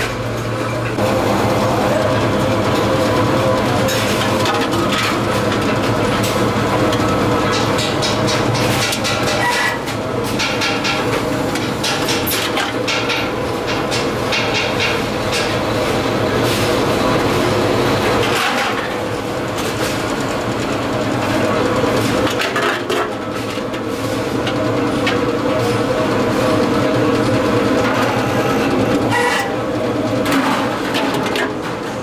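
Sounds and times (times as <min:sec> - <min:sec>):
metal press humming: 0:00.0 - 0:32.0.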